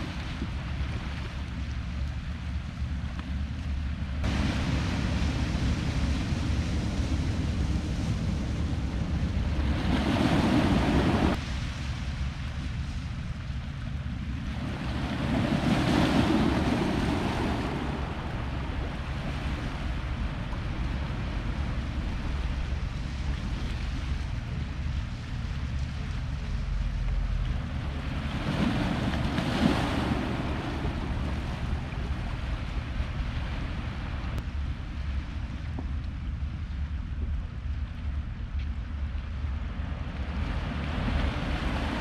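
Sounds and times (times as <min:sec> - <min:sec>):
waves washing against rocks: 0:00.0 - 0:02.4, 0:04.1 - 0:13.3, 0:14.3 - 0:35.2, 0:39.6 - 0:42.0
wind rumble on microphone: 0:00.0 - 0:42.0.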